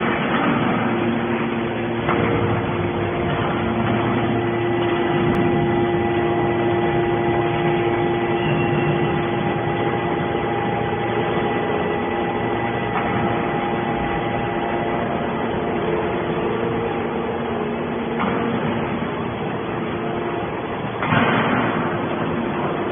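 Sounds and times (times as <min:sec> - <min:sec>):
hydraulic baler humming: 0:00.0 - 0:22.9.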